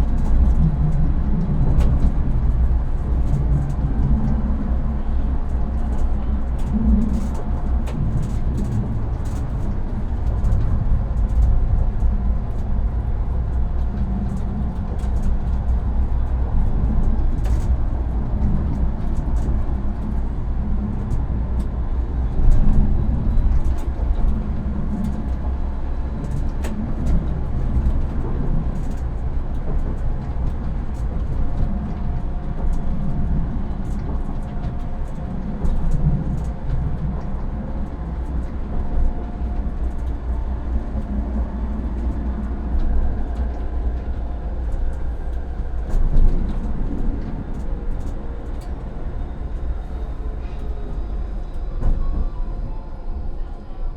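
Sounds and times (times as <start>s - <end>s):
tram wheels rumbling: 0.0s - 53.9s.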